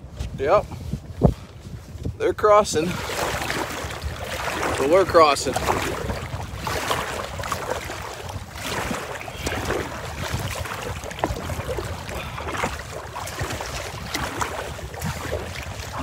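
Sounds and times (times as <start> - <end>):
wind on microphone: 0.0 - 16.0
water slapping against kayak: 0.2 - 16.0.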